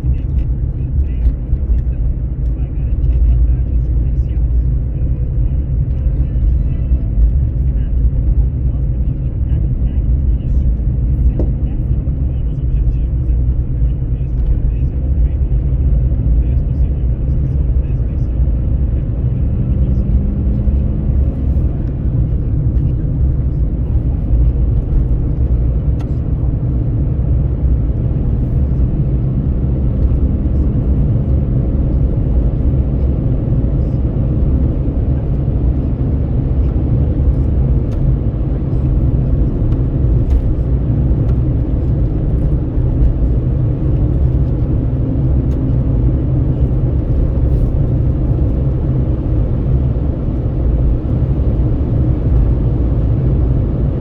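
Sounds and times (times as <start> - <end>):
vehicle road and engine noise: 0.0 - 54.0
wind at car window: 0.0 - 54.0.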